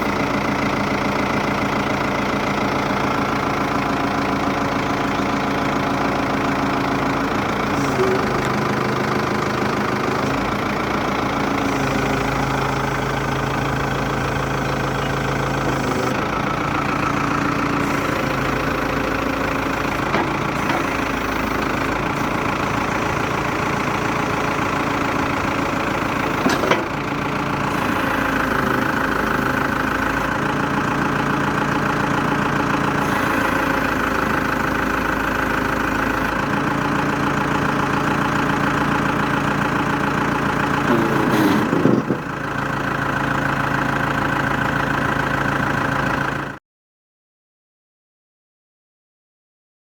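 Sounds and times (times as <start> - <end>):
diesel engine running: 0.0 - 46.6.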